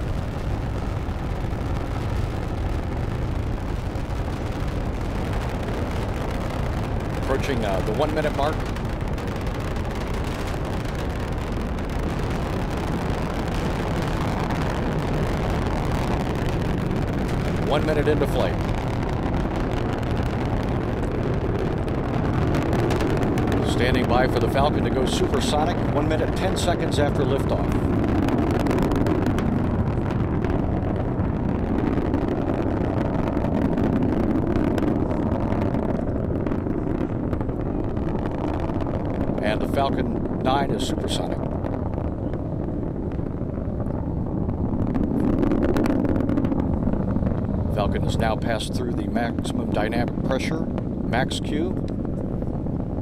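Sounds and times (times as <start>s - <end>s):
rocket engines rumbling: 0.0s - 53.0s.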